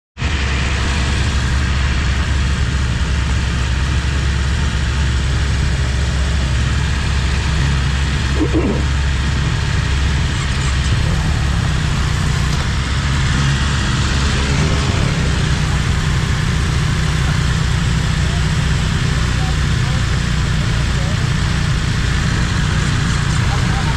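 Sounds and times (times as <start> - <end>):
motorcycle engine idling: 0.3 - 23.9.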